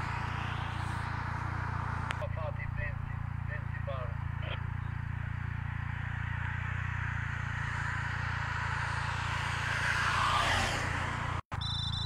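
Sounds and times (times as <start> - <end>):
approaching vehicle: 0.0 - 12.0
low traffic rumble: 0.0 - 12.0.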